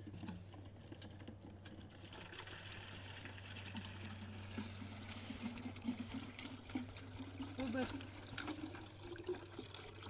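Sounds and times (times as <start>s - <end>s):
water trickling: 1.8s - 10.0s.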